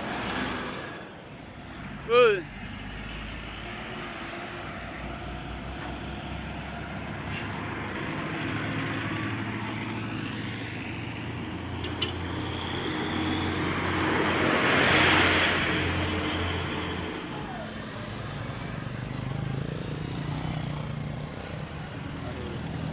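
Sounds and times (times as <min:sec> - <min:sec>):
heavy vehicle engines running: 0:00.0 - 0:22.9
vehicle passing close: 0:01.7 - 0:22.9.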